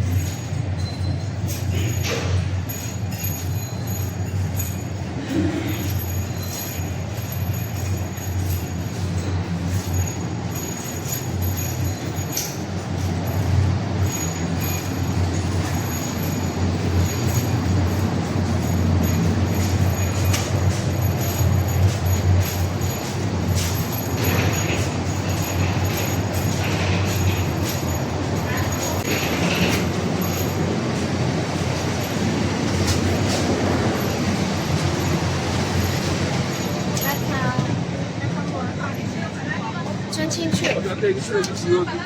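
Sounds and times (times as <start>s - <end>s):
light rattling and jingling: 0.0s - 37.8s.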